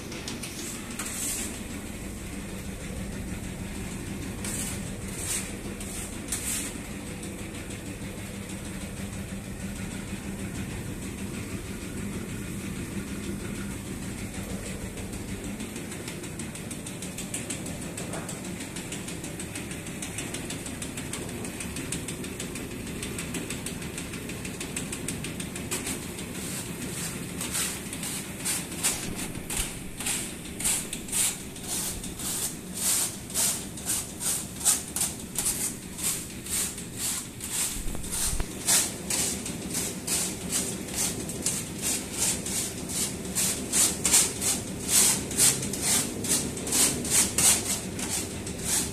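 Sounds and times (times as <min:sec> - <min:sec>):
sieving machine humming: 0:00.0 - 0:48.9.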